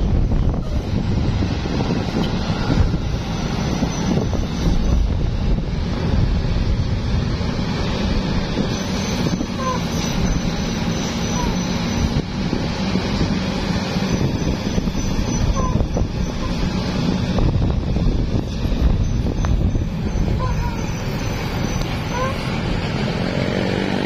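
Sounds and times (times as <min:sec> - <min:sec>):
heavy vehicle engine rumbling: 0:00.0 - 0:24.0.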